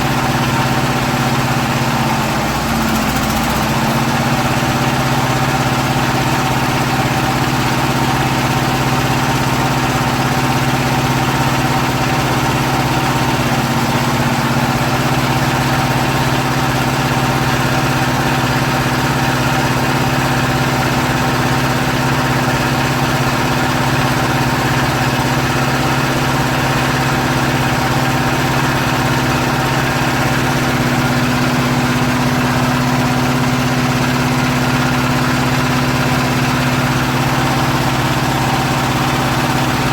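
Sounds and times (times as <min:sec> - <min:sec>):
hydraulic press machine hum: 0:00.0 - 0:20.5, 0:21.1 - 0:39.9.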